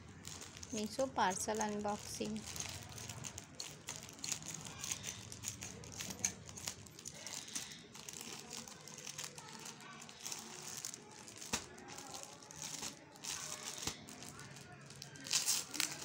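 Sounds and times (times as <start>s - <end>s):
plastic mailer bag crinkling: 0.0s - 16.0s.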